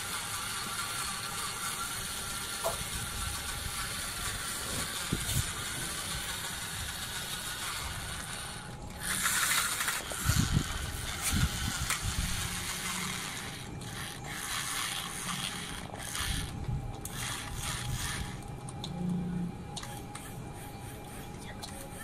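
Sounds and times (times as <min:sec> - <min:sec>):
toy car motor grinding: 0:00.0 - 0:18.5, 0:19.8 - 0:22.0.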